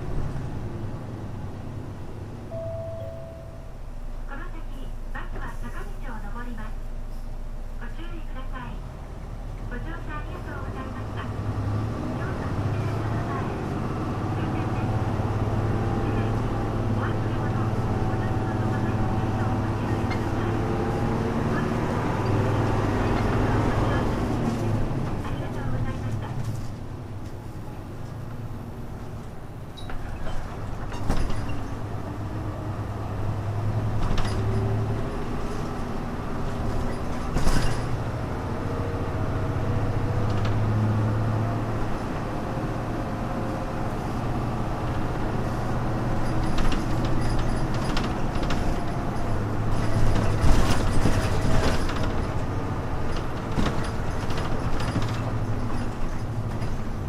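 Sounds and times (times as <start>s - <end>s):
muffled bus engine drone: 0.0s - 57.0s
bus body rattling and knocking: 9.0s - 57.0s.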